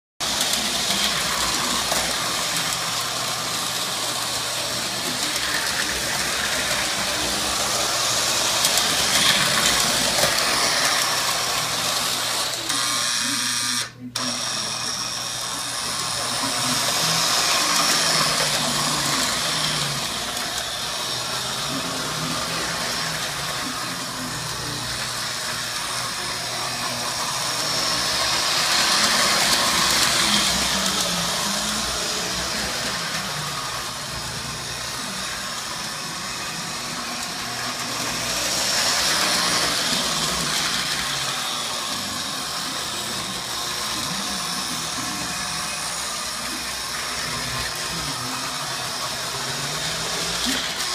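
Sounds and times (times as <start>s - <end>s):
toy train motor whirring: 0.2s - 50.9s.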